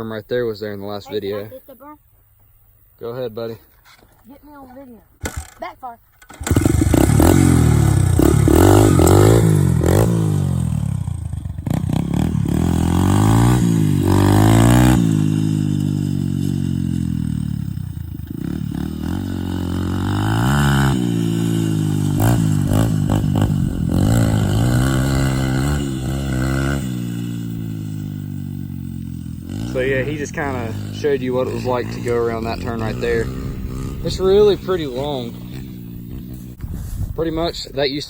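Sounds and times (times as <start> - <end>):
dirt bike engine revving: 6.2 - 36.7.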